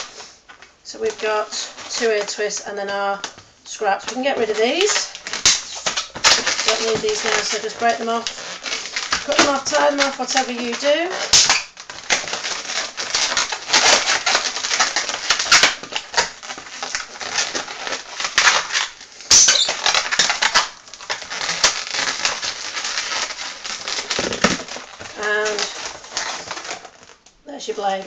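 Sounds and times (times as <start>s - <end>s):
balloons rubbing and squeaking: 0.0s - 28.0s.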